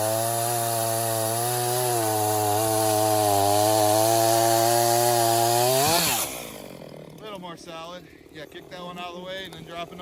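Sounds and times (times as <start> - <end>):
chainsaw cutting a log: 0.0 - 10.0.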